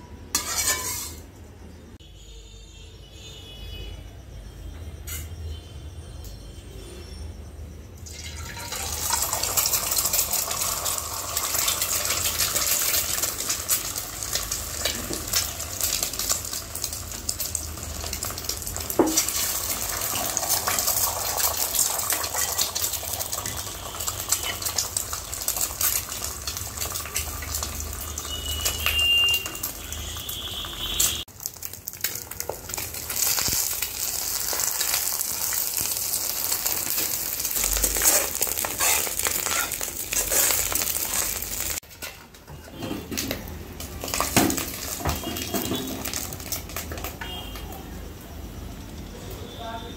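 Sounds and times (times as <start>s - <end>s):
eggs sizzling in hot oil: 0.2s - 1.3s, 8.0s - 42.2s, 42.8s - 48.8s.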